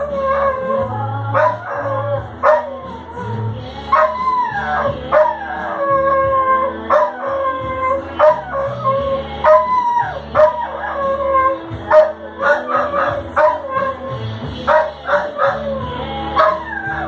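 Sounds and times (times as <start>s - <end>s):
dog howling: 0.0s - 2.9s, 3.9s - 17.0s
song with steady beat: 0.0s - 17.0s.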